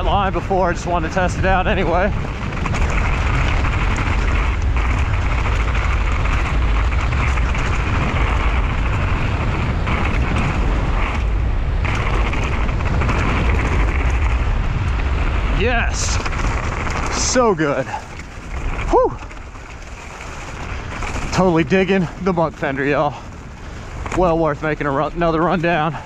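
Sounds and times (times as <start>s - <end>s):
bike tyres rolling on gravel: 0.0s - 26.0s
wind on microphone: 0.0s - 26.0s.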